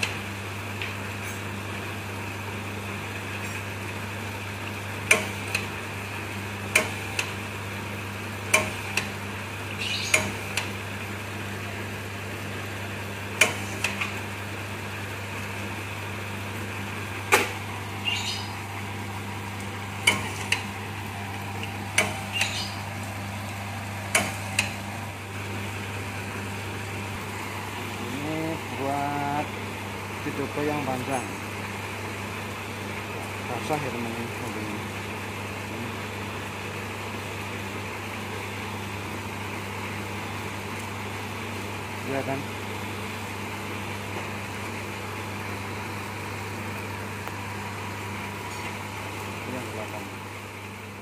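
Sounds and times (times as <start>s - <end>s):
electric motor hum: 0.0s - 51.0s.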